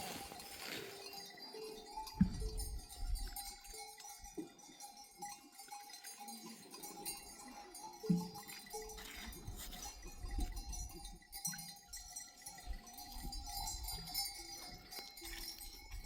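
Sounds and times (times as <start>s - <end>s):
goat and sheep bells clinking: 0.0s - 16.0s.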